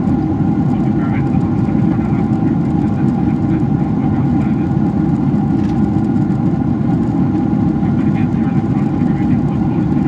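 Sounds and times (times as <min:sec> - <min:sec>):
airliner cabin engine roar: 0:00.0 - 0:10.0.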